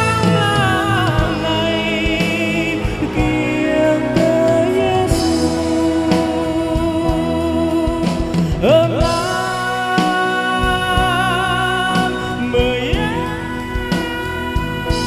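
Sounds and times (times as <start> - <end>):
instrumental accompaniment: 0.0 - 15.0
man singing into microphone: 0.0 - 15.0.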